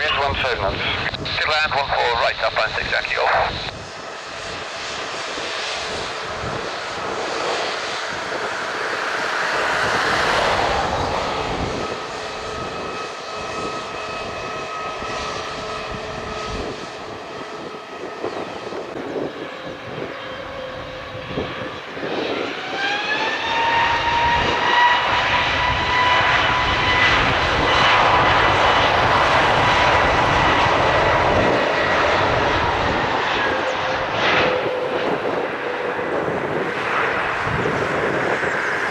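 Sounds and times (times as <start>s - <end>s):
jet engines whining and spooling up: 0.0s - 38.9s.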